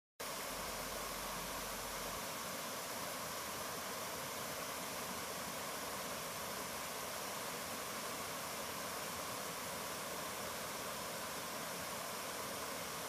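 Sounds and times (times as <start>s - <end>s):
water rushing down cascades: 0.2s - 13.0s.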